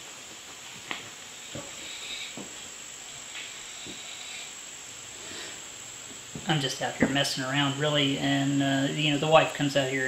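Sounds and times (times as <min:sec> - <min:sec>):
crickets chirring: 0:01.0 - 0:10.0.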